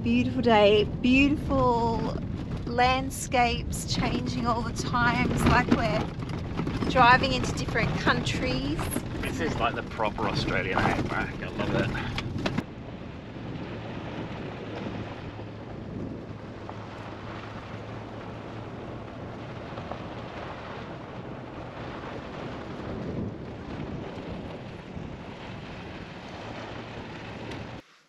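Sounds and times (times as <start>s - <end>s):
vehicle rumble on gravel road: 0.0s - 28.0s.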